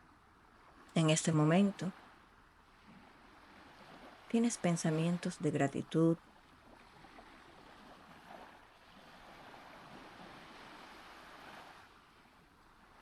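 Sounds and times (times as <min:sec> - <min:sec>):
faint sea waves: 0:00.0 - 0:13.0.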